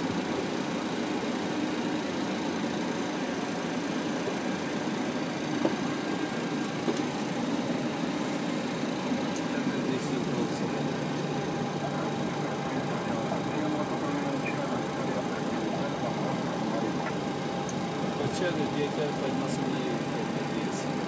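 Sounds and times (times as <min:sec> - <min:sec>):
aircraft cockpit hum: 0:00.0 - 0:21.0.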